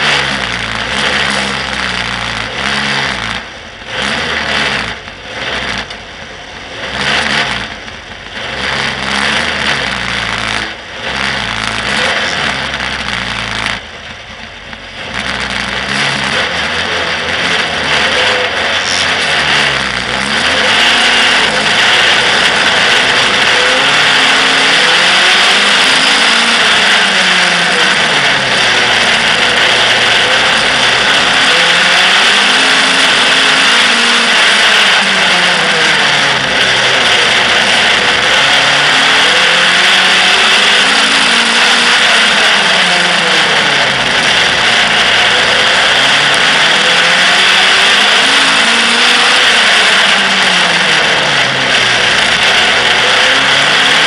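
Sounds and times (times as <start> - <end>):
loud rushing noise: 0.0 - 54.0
race car engine revving: 0.0 - 54.0.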